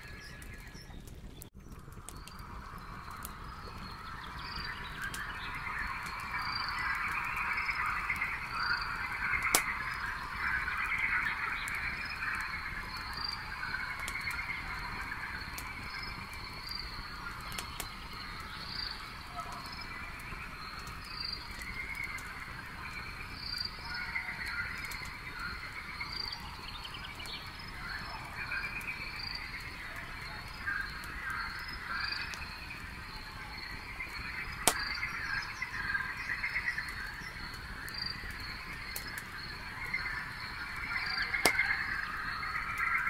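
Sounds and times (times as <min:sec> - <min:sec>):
campfire popping: 0:00.0 - 0:43.0
frogs croaking: 0:01.9 - 0:43.0
insects chirping: 0:02.3 - 0:43.0.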